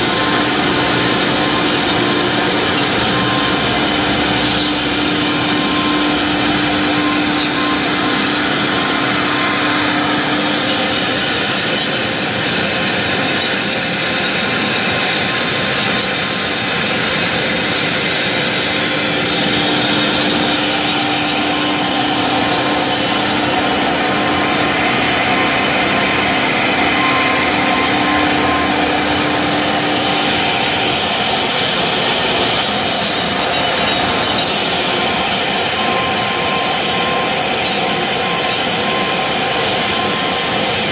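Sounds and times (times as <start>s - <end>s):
spindle tones: 0.0s - 13.6s, 17.9s - 40.9s
router cutting hiss: 0.0s - 40.9s.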